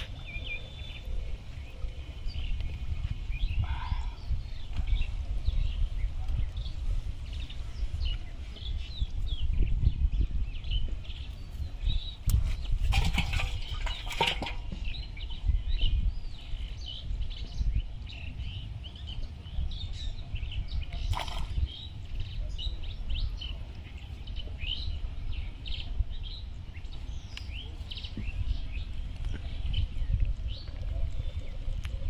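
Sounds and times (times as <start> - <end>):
small birds chirping: 0.0 - 32.0
steady low rumble: 0.0 - 32.0.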